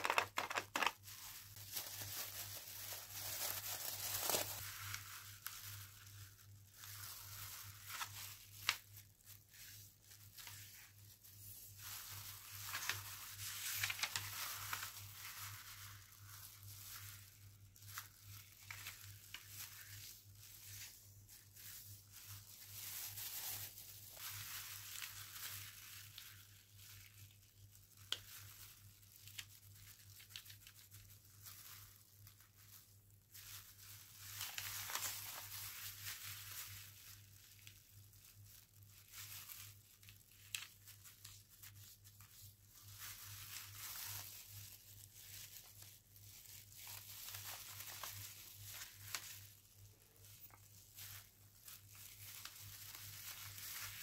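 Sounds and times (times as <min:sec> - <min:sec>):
paper crackles and snaps: 0:00.0 - 0:54.0
plastic gloves crinkling: 0:00.0 - 0:54.0.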